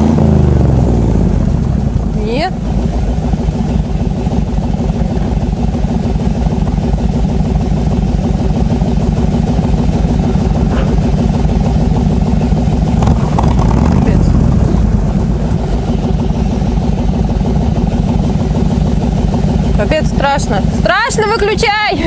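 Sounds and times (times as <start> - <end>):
armoured car engine running: 0.0 - 22.0.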